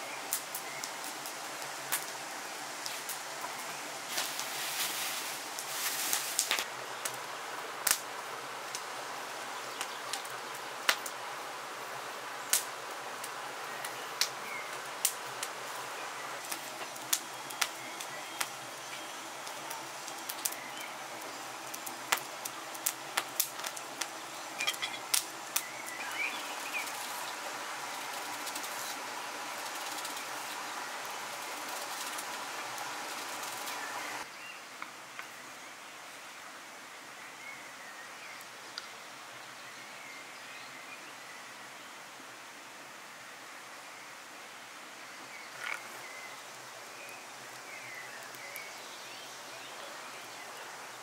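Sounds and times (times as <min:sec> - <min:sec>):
steady outdoor hiss: 0:00.0 - 0:51.0.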